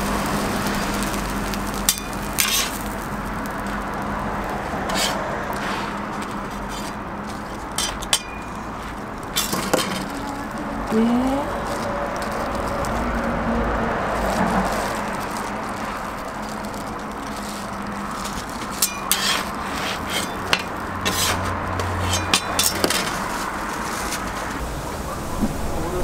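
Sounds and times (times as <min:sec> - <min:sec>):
steady hiss: 0:00.0 - 0:26.0
metal spatula scraping griddle: 0:00.3 - 0:03.0, 0:04.7 - 0:24.6.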